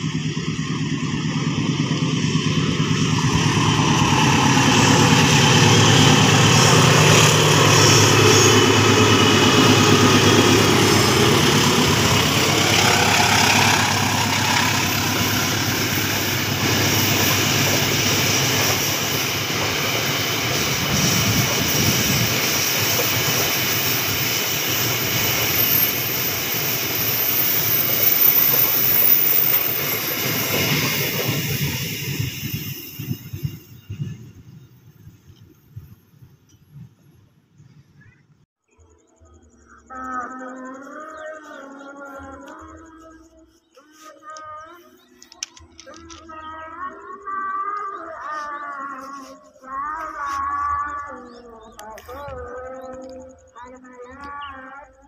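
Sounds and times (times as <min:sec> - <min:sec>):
diesel locomotive engine passing: 0:00.0 - 0:38.1, 0:38.8 - 0:54.9.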